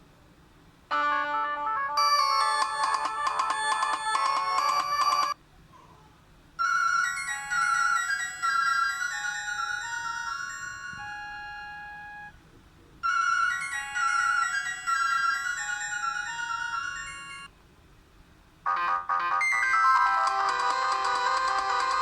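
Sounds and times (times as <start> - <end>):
bright held-note ringtone melody: 0.9 - 5.4, 6.6 - 12.3, 13.1 - 17.5, 18.7 - 22.0
busy electronic ringtone tune: 0.9 - 5.4, 6.6 - 12.3, 13.1 - 17.5, 18.7 - 22.0.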